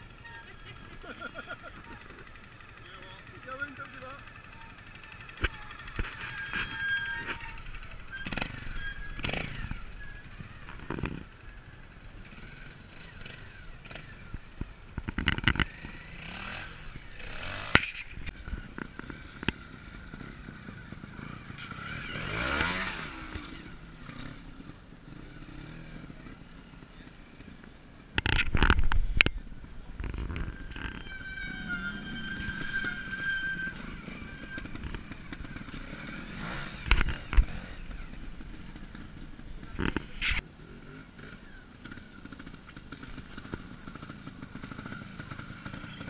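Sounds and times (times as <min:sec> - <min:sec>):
motorcycle engines revving: 0:00.0 - 0:46.0.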